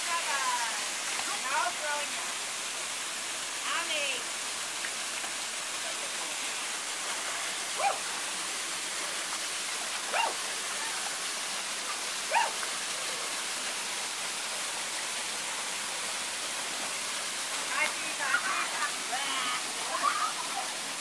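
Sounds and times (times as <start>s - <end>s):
waterfall rushing into pool: 0.0s - 21.0s.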